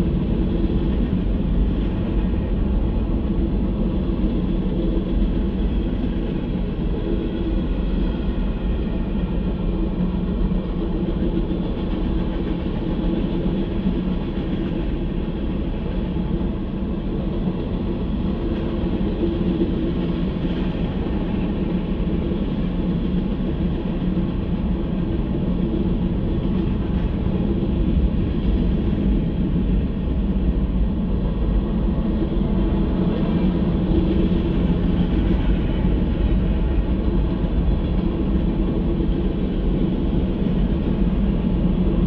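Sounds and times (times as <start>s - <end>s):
freight train rumbling past: 0.0s - 42.0s.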